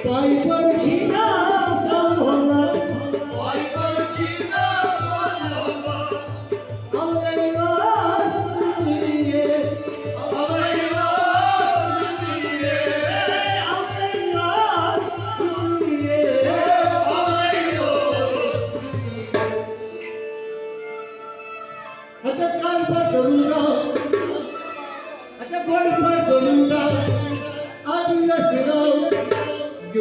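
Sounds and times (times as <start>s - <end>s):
bowed string instrument: 0.0s - 30.0s
harmonium: 0.0s - 30.0s.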